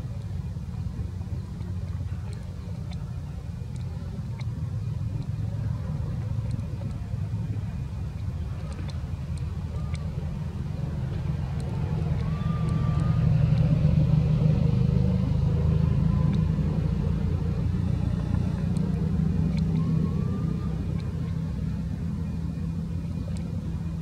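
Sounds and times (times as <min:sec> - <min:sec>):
motor rumbling: 0:00.0 - 0:24.0.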